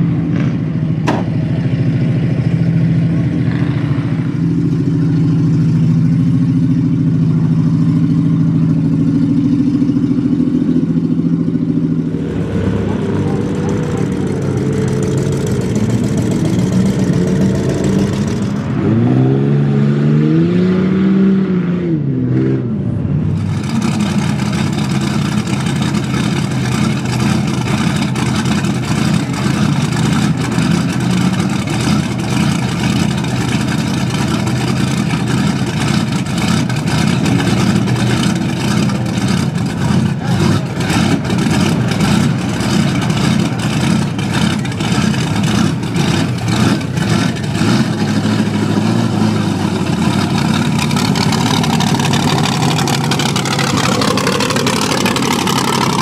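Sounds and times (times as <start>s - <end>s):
truck engine revving and idling: 0.0s - 56.0s.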